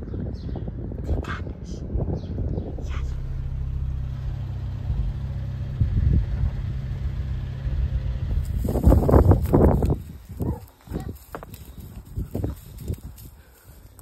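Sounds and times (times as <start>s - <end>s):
car engine humming: 1.8s - 14.0s.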